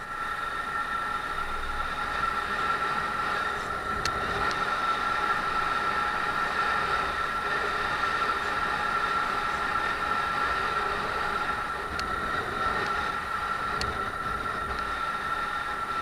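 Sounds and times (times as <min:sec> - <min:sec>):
wind rushing over camera: 0:00.0 - 0:16.0.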